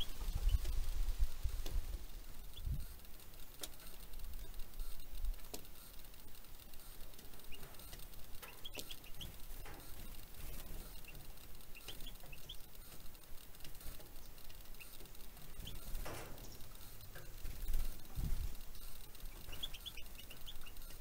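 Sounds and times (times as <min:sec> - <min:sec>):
songbirds chirping: 0:00.0 - 0:21.0
birds tapping on mesh tray: 0:03.6 - 0:21.0.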